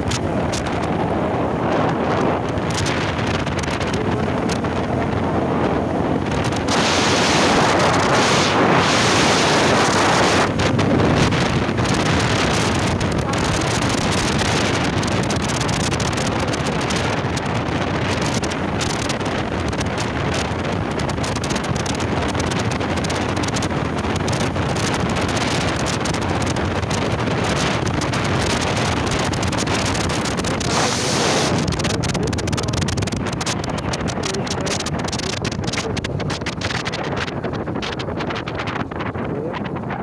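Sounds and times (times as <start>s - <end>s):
motorcycle running: 0.0s - 40.0s
wind rushing over microphone: 0.0s - 40.0s.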